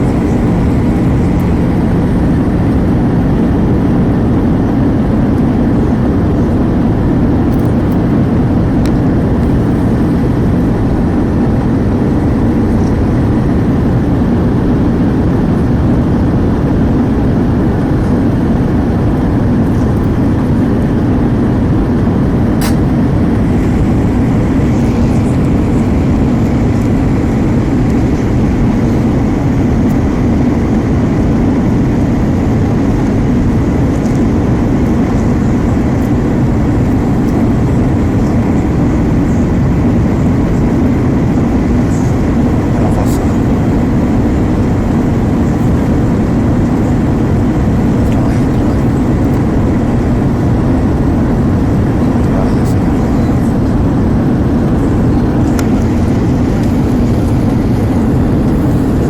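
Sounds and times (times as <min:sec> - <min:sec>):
airplane cabin engine and airflow noise: 0:00.0 - 0:59.0.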